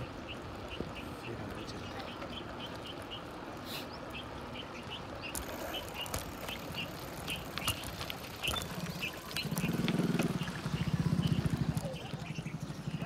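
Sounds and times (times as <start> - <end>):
bicycle tyres on rough road: 0.0 - 13.0.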